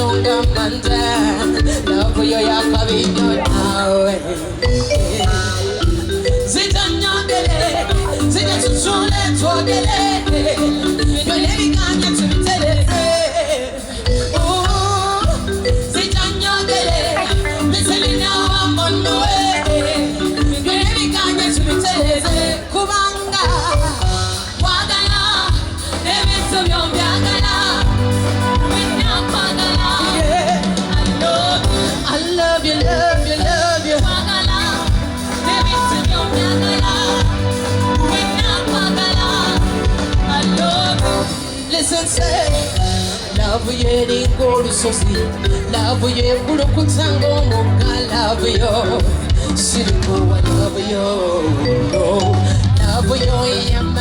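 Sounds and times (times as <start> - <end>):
latin dance band music: 0.0 - 54.0
woman singing: 0.0 - 54.0.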